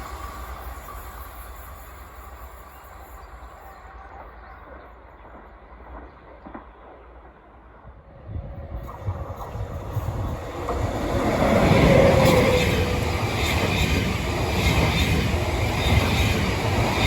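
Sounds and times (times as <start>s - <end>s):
train rolling on tracks: 0.0s - 17.0s.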